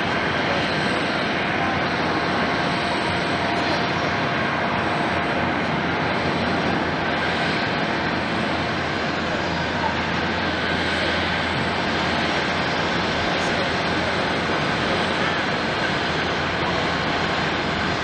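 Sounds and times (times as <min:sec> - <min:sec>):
faint engine whine: 0:00.0 - 0:18.0
jet engines rushing: 0:00.0 - 0:18.0.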